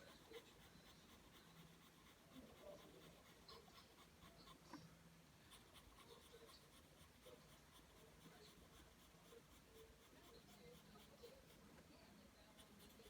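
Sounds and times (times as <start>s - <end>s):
pencil scratching on paper: 0.0s - 4.9s, 5.5s - 13.0s.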